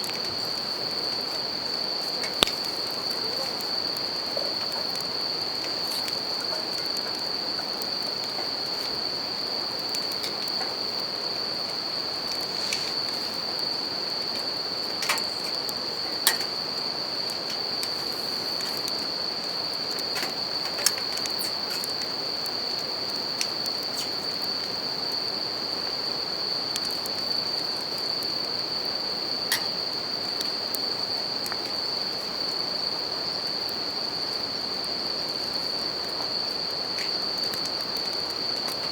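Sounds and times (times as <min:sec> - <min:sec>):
campfire crackling pops: 0:00.0 - 0:32.2, 0:35.5 - 0:38.9
crickets singing: 0:00.0 - 0:38.9.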